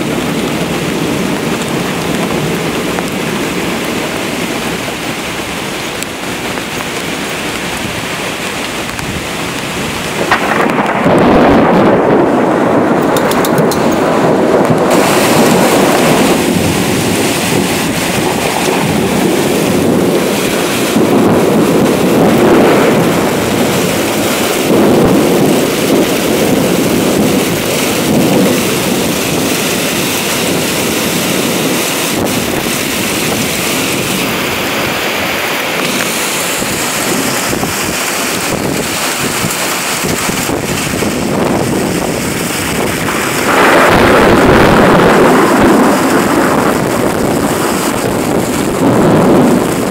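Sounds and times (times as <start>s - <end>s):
heavy rain: 0.0s - 49.9s
wind buffeting the microphone: 0.0s - 49.9s.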